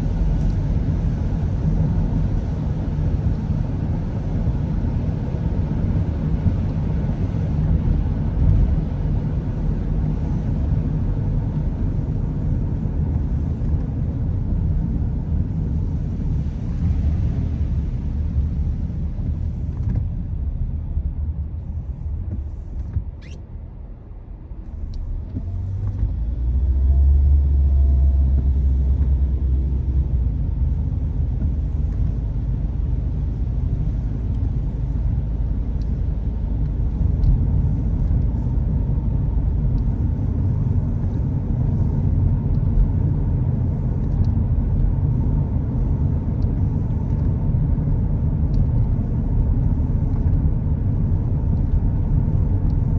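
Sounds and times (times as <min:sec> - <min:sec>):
car driving rumble: 0:00.0 - 0:52.9.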